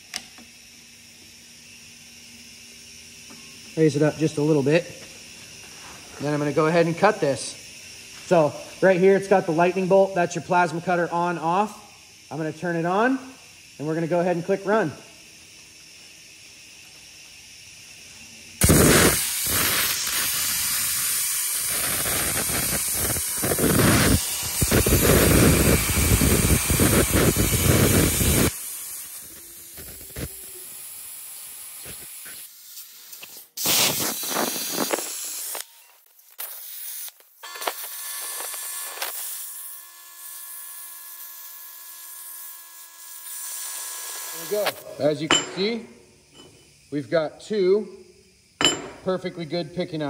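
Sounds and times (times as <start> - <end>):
plasma cutter hissing: 0.0 - 46.0
broken-up hissing: 0.0 - 50.0.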